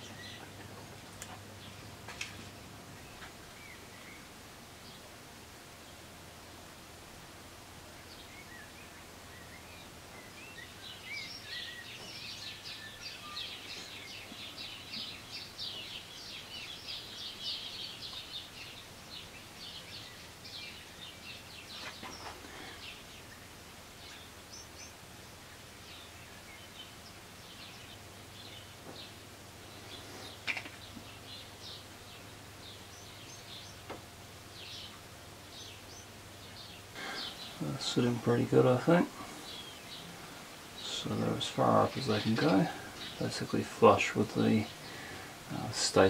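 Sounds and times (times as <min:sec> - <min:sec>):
small birds chirping: 0:00.0 - 0:06.6, 0:07.7 - 0:46.0
faint low hum: 0:00.0 - 0:46.0.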